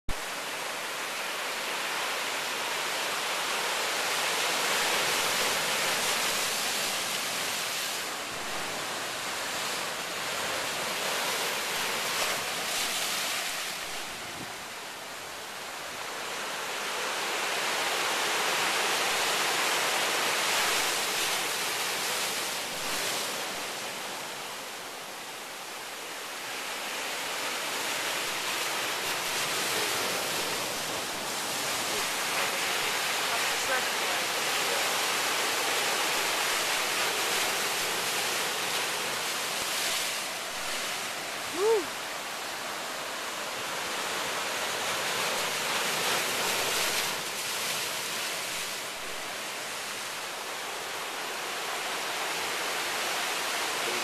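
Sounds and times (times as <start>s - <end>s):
surf churning on rocks: 0.6s - 14.7s, 15.9s - 24.4s, 26.4s - 54.0s.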